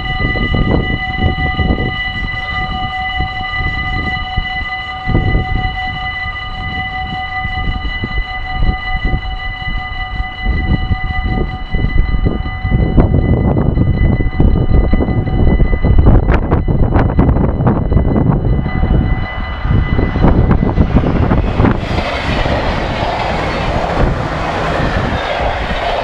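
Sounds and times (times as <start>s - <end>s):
level-crossing warning bell ringing: 0.0s - 26.0s
wind rumble on microphone: 0.0s - 26.0s.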